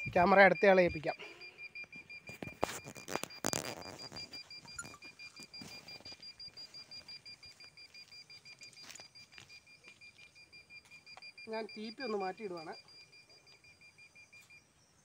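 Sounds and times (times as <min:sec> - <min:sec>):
rapid high-pitched beeping: 0:00.0 - 0:15.0.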